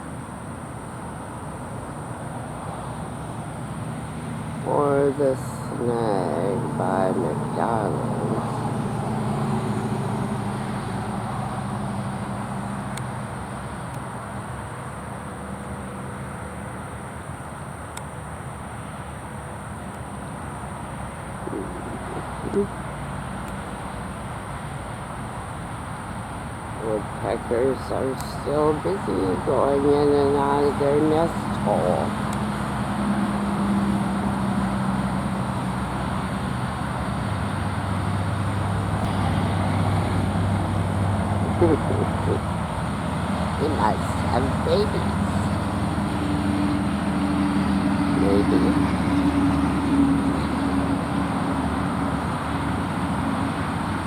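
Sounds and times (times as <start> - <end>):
road noise: 0.0 - 54.0
vehicle engine hum passing: 0.0 - 54.0.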